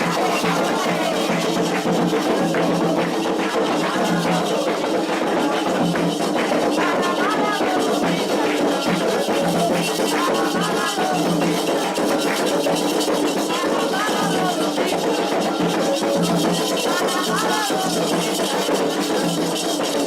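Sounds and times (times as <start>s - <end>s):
drums: 0.0s - 20.0s
shakers: 0.0s - 20.0s
voices singing a chant: 0.0s - 20.0s.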